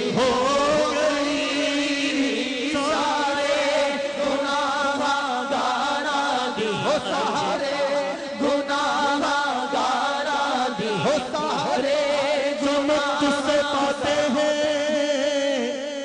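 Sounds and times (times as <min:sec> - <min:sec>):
men chanting: 0:00.0 - 0:16.0.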